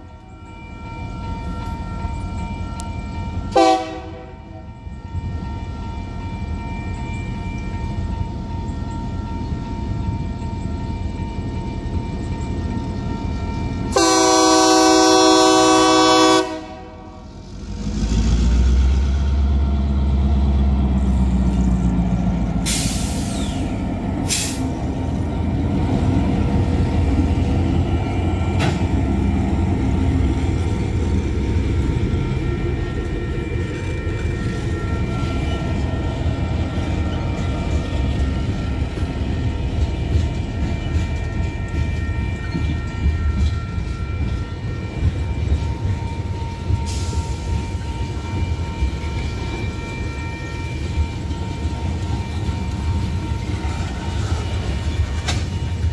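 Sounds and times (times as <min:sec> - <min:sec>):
diesel locomotive engine rumble: 0:00.0 - 0:55.9.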